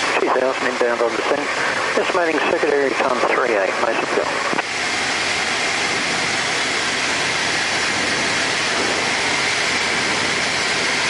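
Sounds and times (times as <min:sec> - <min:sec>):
light aircraft engine: 0:00.0 - 0:11.0
rushing air: 0:00.0 - 0:11.0.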